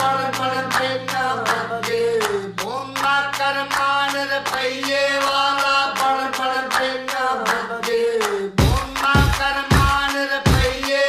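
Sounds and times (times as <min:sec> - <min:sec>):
sung vocal over steady beat: 0:00.0 - 0:11.0.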